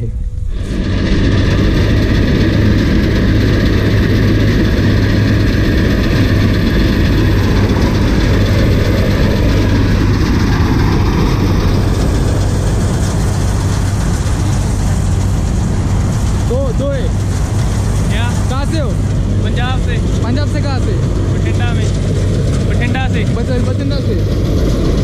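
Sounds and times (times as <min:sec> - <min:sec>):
tractor engine droning: 0:00.0 - 0:25.0.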